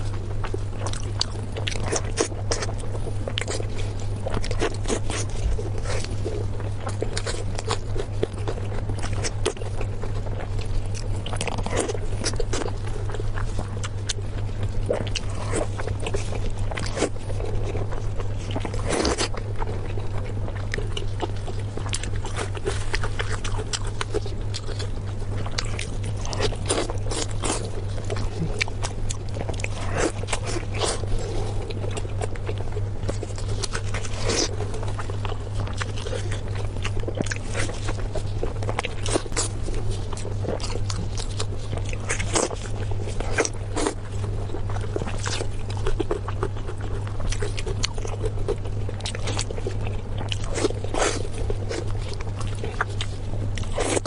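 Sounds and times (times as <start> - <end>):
crunching and chewing: 0.0 - 54.0
steady low hum: 0.0 - 54.0.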